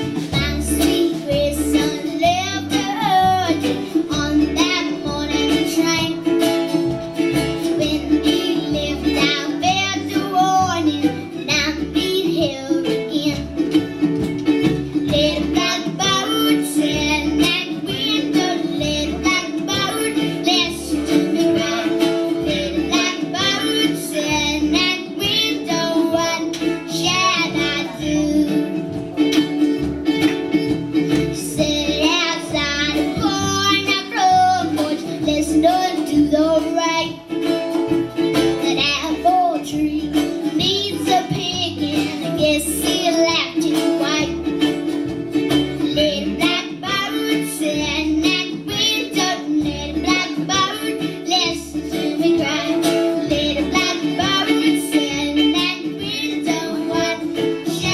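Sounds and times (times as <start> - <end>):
girl singing with vibrato: 0.0 - 13.8, 14.9 - 29.0, 31.0 - 37.5, 38.3 - 57.9
acoustic guitar: 0.0 - 57.9.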